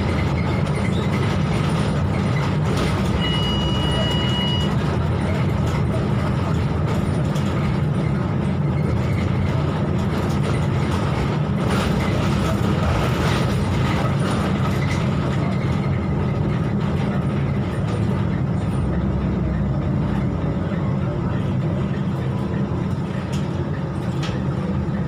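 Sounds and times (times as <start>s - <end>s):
bus diesel engine drone: 0.0s - 25.0s
road noise: 0.0s - 25.0s.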